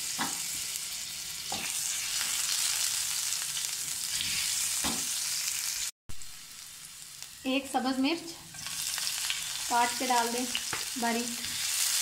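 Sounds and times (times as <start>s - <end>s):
ginger sizzling in hot oil: 0.0s - 12.0s.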